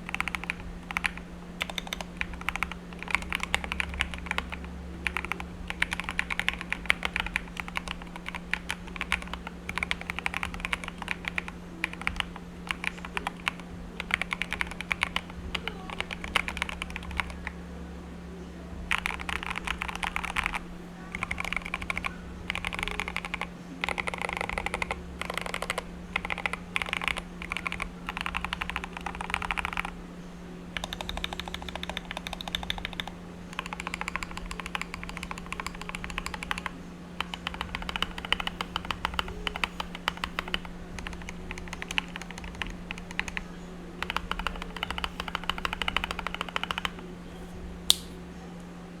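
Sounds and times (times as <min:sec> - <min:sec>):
mechanical keyboard typing: 0:00.0 - 0:17.6, 0:18.9 - 0:30.0, 0:30.8 - 0:47.0
steady low hum: 0:00.0 - 0:49.0.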